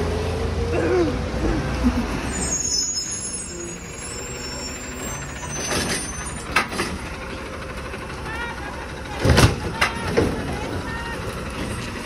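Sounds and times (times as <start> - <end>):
garbage truck running: 0.0 - 12.0.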